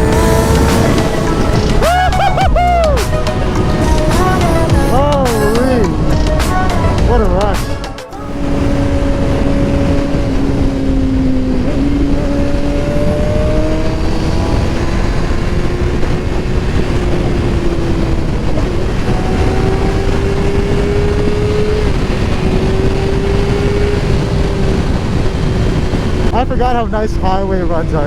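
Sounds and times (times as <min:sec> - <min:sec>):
low wind rush: 0:00.0 - 0:28.0
motorcycle engine at speed: 0:00.0 - 0:28.0.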